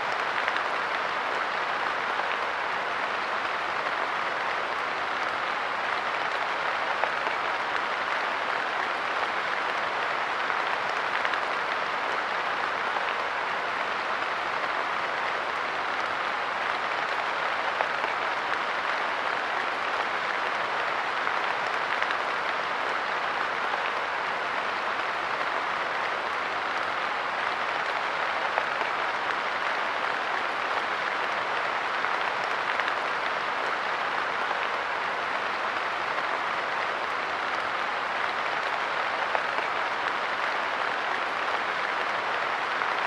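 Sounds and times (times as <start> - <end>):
light rain on a bench: 0.0 - 43.0.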